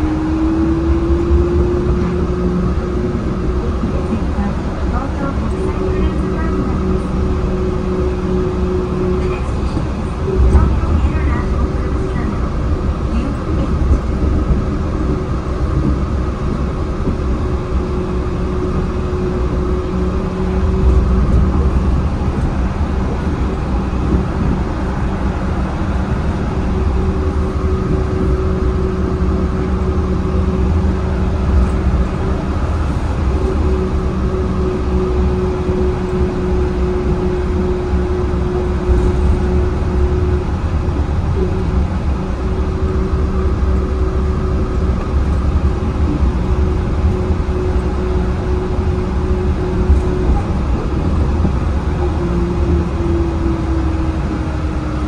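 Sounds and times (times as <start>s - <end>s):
train hum: 0.0s - 55.0s
tyres rumbling on guideway: 0.0s - 55.0s.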